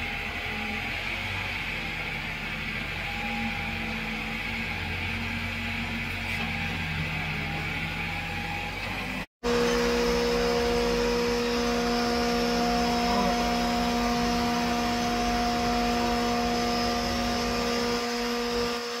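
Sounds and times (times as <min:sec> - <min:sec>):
diesel engine droning: 0:00.0 - 0:18.8
hydraulic whine: 0:00.0 - 0:19.0.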